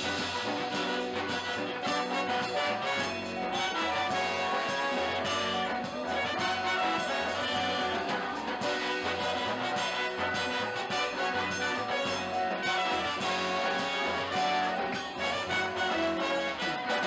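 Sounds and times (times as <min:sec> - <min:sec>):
light percussion: 0:00.0 - 0:17.0
trombone: 0:00.0 - 0:17.0
trumpet: 0:00.0 - 0:17.0
upright bass: 0:00.0 - 0:17.0.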